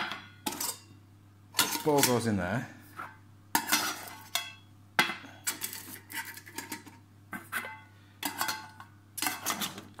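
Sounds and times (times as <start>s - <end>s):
metal cookware clinking: 0.0s - 2.4s, 3.5s - 7.0s, 7.6s - 10.0s.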